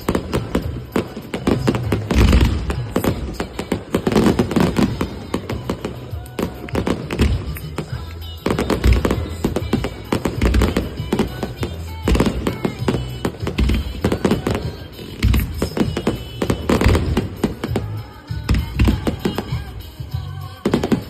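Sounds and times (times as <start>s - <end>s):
fireworks booming and crackling: 0.0s - 21.0s
music: 0.0s - 21.0s.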